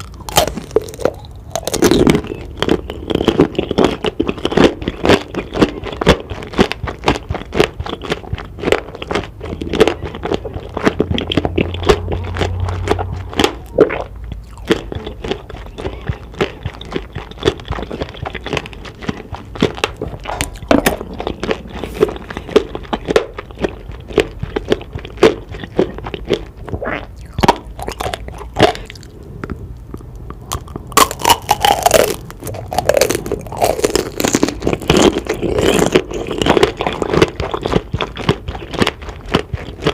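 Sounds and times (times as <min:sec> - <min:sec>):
candied sugar crunching: 0:00.0 - 0:29.2, 0:30.4 - 0:39.9
wet chewing: 0:00.0 - 0:39.9.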